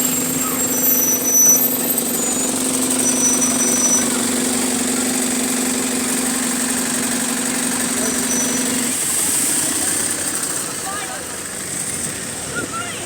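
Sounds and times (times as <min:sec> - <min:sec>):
diesel bus engine idling: 0:00.0 - 0:13.0.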